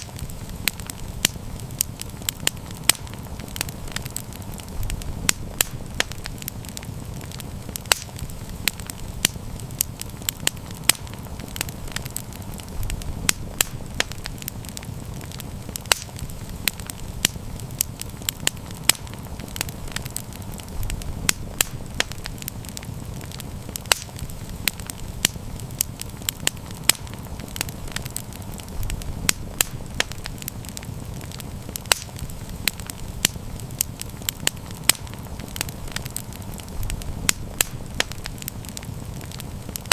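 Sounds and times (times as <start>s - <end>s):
campfire crackling and popping: 0.0s - 39.9s
steady low rumble: 0.0s - 39.9s.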